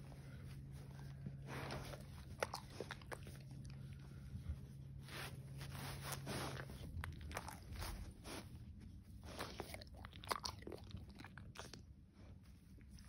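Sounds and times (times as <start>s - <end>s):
dog chewing with crunching: 0.0s - 13.0s.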